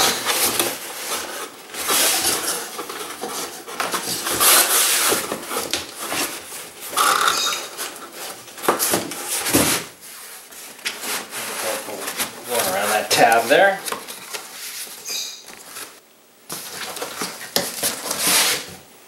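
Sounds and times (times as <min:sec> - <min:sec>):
cardboard scraping and rubbing: 0:00.0 - 0:18.9.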